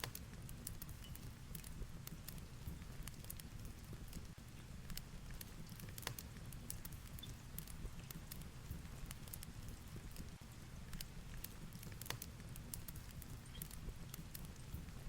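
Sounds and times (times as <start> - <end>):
fireplace crackling and popping: 0.0 - 15.0.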